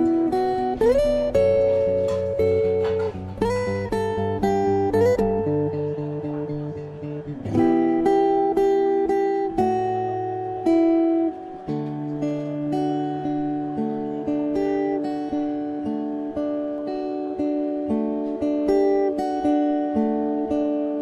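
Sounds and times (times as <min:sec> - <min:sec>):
fingerstyle acoustic guitar: 0:00.0 - 0:21.0.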